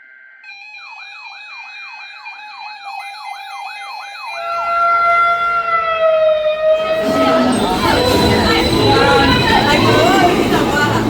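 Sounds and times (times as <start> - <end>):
steady siren tone: 0.0 - 11.0
electronic siren yelping: 0.5 - 10.5.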